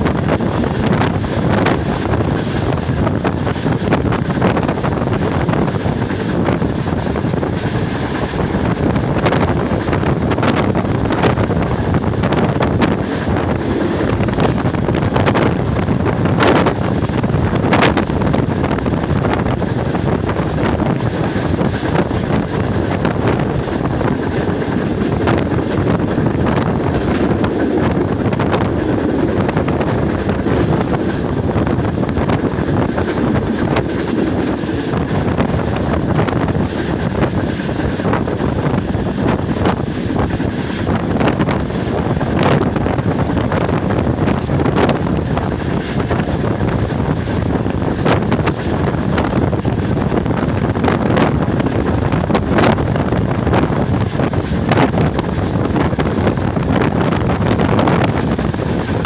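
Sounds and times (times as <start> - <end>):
train running on track: 0.0 - 59.0
wind buffeting microphone: 0.0 - 59.0.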